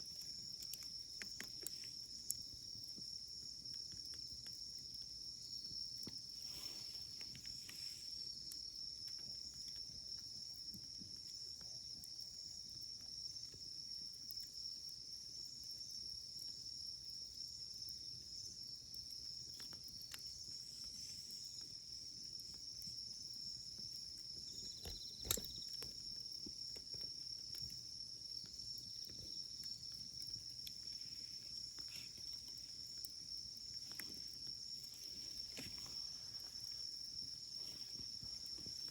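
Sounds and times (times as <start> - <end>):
campfire crackling and popping: 0.0 - 38.9
high-pitched insect trill: 0.0 - 38.9.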